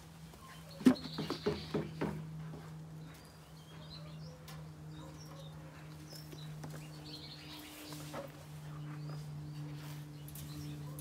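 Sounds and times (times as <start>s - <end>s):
steady low hum: 0.0s - 11.0s
small birds chirping: 0.2s - 11.0s.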